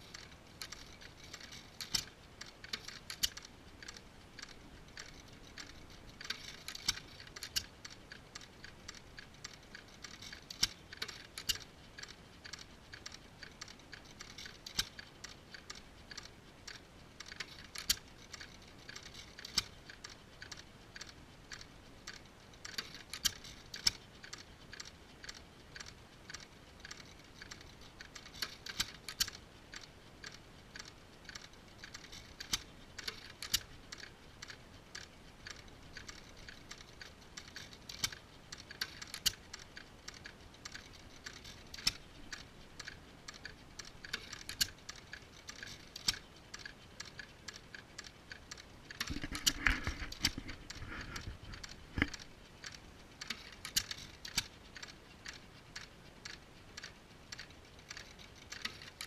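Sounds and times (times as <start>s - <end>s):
stationary engines clicking and snapping: 0.0s - 59.0s.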